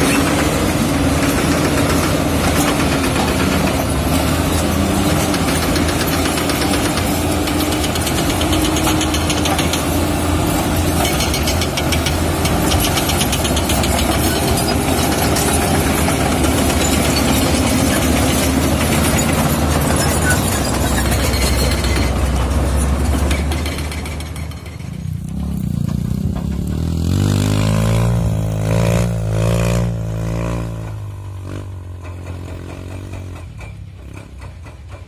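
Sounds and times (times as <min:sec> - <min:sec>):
bulldozer diesel engine running: 0:00.0 - 0:29.4, 0:30.0 - 0:35.0.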